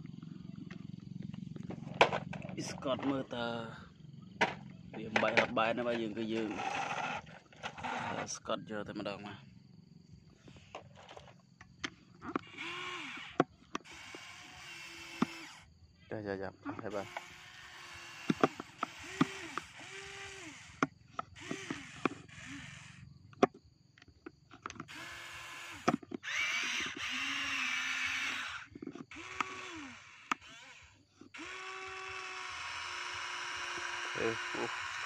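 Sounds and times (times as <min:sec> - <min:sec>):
small electric motors whining: 0:00.0 - 0:08.6, 0:10.2 - 0:15.8, 0:16.8 - 0:35.0.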